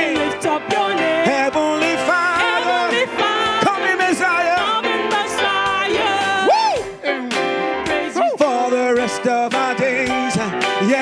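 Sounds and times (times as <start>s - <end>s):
band playing a beat: 0.0s - 11.0s.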